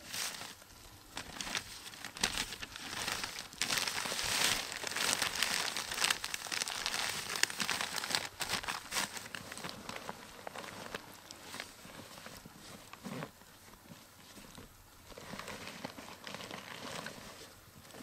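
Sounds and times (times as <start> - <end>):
rustling and crinkling: 0.0 - 18.0.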